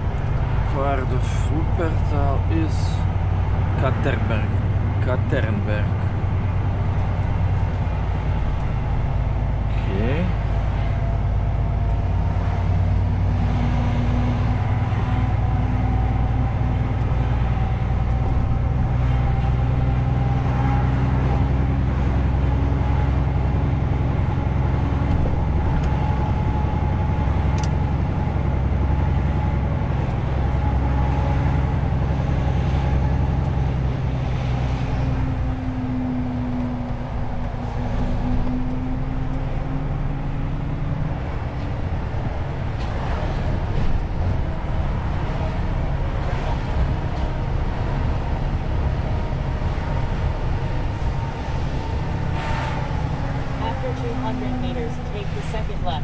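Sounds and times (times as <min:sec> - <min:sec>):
road noise: 0:00.0 - 0:56.0
truck diesel engine running: 0:00.0 - 0:56.0.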